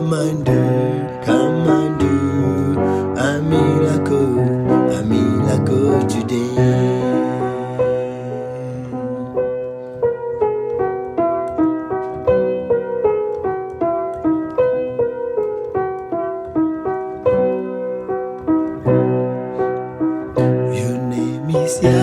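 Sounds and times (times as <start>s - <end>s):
keyboard playing slow melody: 0.0s - 22.0s.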